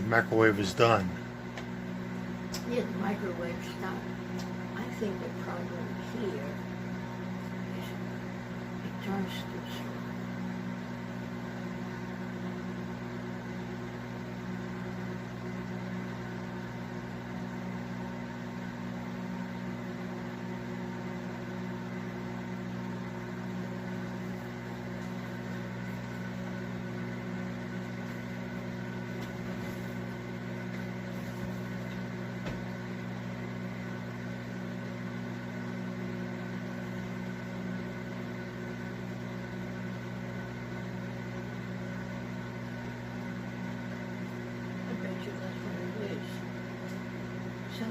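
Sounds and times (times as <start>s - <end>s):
microwave oven humming: 0.0s - 47.9s.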